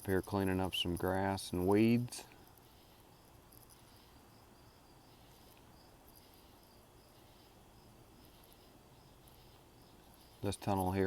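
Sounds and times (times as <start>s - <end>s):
faint insects chirping: 0.0s - 11.0s.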